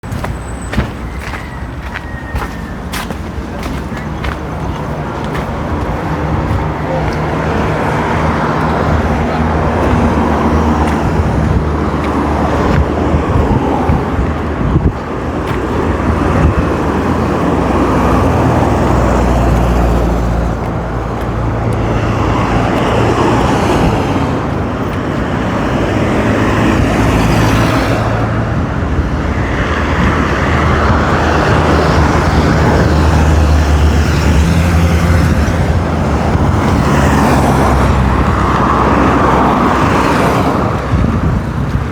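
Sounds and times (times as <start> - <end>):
road traffic rumble: 0.0 - 41.9
vehicles passing: 0.0 - 41.9.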